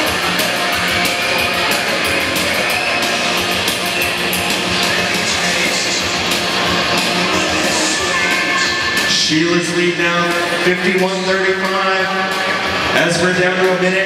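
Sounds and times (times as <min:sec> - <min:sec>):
rock music over loudspeakers: 0:00.0 - 0:14.0.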